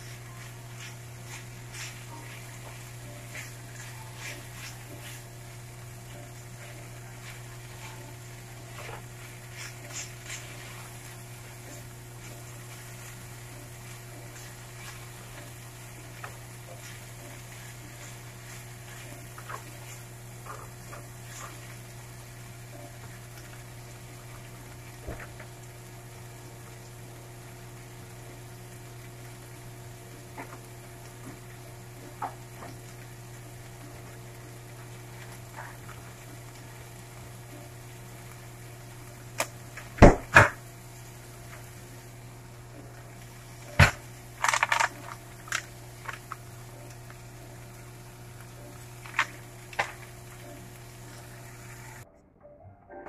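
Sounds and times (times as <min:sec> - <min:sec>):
food sizzling in a frying pan: 0:00.0 - 0:52.0.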